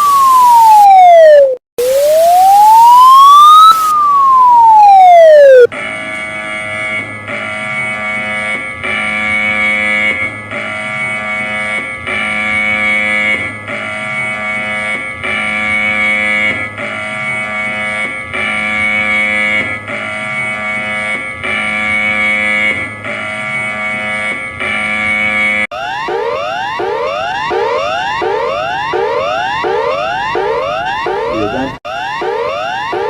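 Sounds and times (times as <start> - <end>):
pulsed air raid siren: 0.0 - 33.0.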